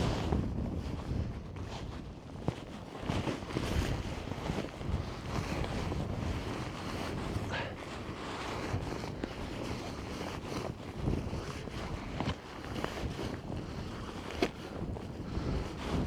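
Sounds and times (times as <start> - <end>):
wind buffeting microphone: 0.0 - 16.0
short rustles: 1.6 - 16.0.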